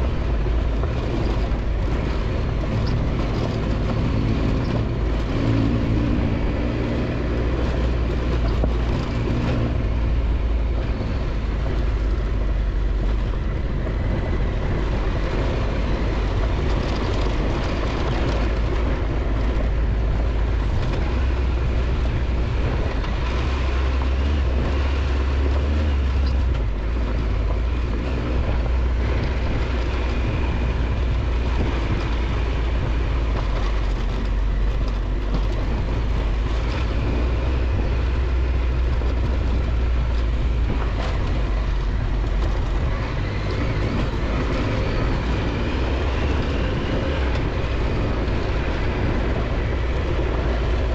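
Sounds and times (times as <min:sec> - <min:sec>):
motorcycle engine rumble: 0:00.0 - 0:50.9
road and wind noise: 0:00.0 - 0:50.9.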